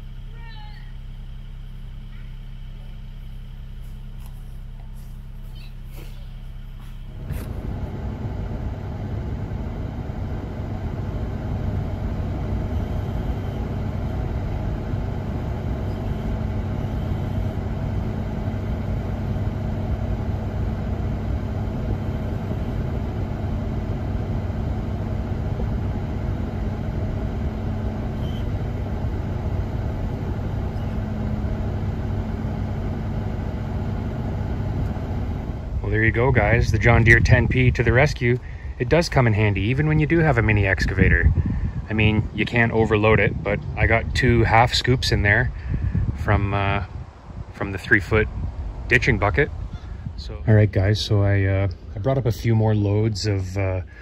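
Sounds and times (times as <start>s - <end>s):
hydraulics working: 0.0s - 49.5s
excavator diesel engine running: 0.0s - 49.6s.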